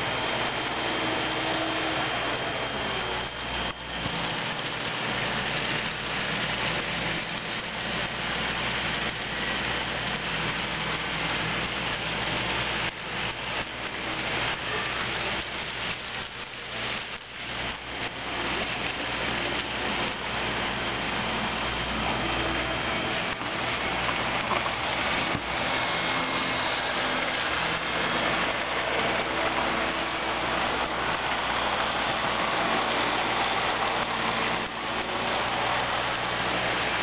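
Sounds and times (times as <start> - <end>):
model train wheels rattling: 0.0 - 37.0.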